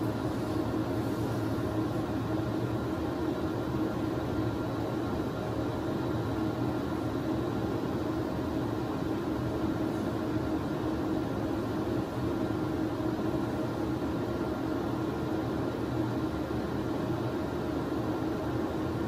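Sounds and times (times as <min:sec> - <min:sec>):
scanner equipment humming: 0:00.0 - 0:19.0.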